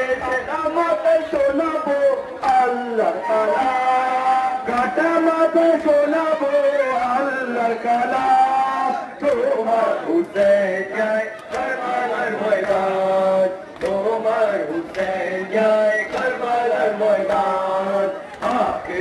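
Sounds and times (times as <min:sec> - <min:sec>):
man chanting through loudspeakers: 0:00.0 - 0:19.0.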